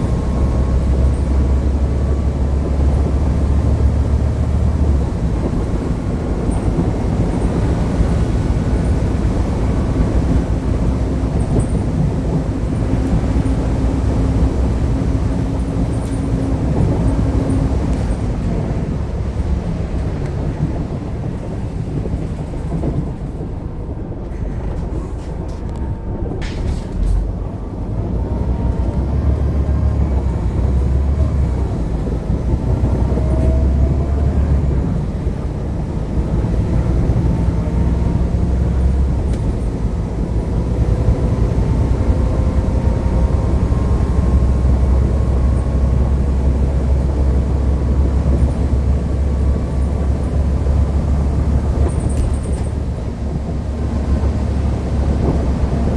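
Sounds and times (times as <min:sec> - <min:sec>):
bus engine rumbling: 0:00.0 - 0:55.9.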